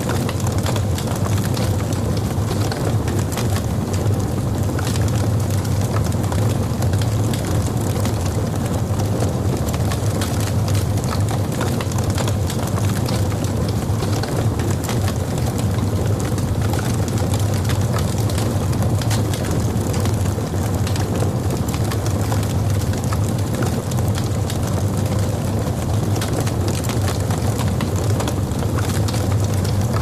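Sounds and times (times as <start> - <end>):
fire crackles and pops: 0.0 - 30.0
low rumble of flames: 0.0 - 30.0.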